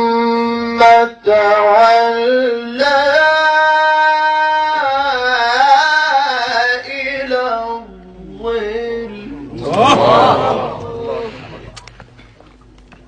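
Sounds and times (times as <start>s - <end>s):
man chanting melodic recitation: 0.0s - 11.8s.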